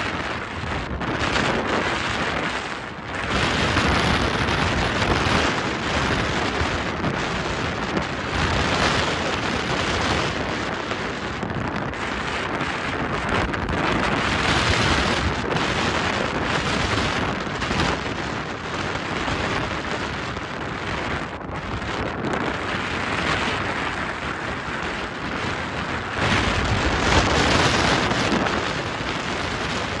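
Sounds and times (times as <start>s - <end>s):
rough sea: 0.0s - 30.0s
strong wind buffeting microphone: 0.0s - 30.0s.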